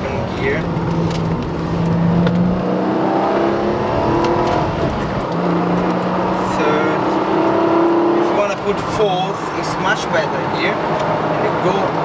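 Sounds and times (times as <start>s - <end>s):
sports car engine accelerating: 0.1s - 9.8s.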